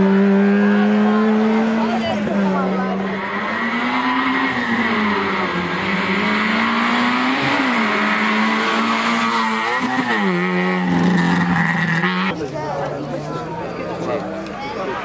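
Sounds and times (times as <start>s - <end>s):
race car engine revving: 0.0s - 12.5s.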